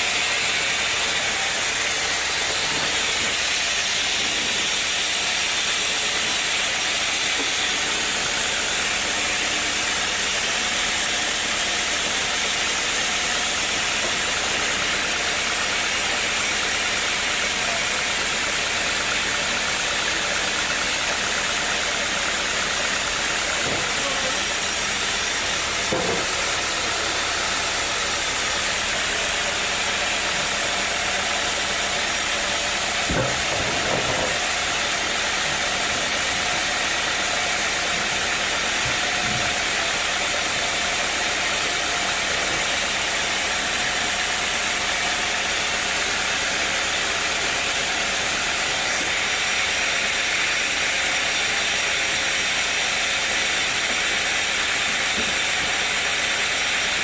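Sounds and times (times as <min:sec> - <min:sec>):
machine engine running: 0:00.0 - 0:52.6.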